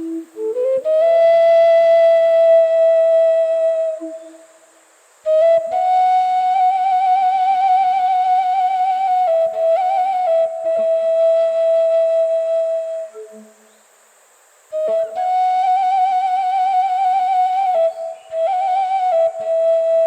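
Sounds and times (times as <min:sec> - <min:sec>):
long flute playing slow lament: 0:00.0 - 0:13.7, 0:14.7 - 0:20.0.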